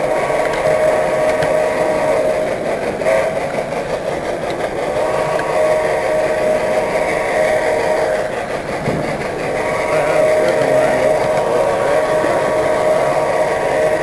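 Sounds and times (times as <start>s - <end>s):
model train mechanical hum: 0.0s - 14.0s.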